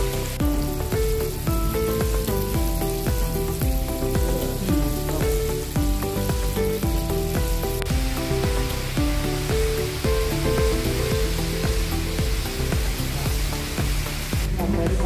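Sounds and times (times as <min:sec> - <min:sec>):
fish sizzling in hot oil: 0:00.0 - 0:15.0
instrumental background music: 0:00.0 - 0:15.0.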